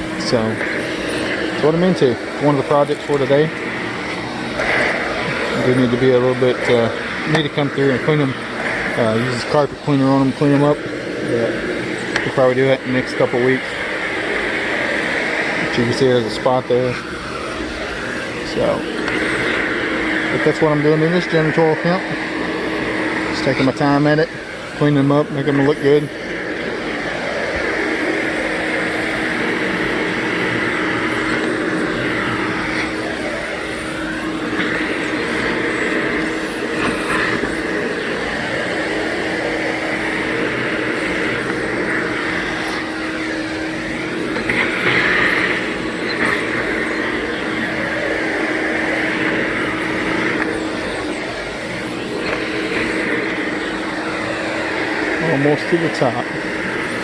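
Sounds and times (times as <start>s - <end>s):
vacuum cleaner on carpeted stairs: 0.0s - 57.0s.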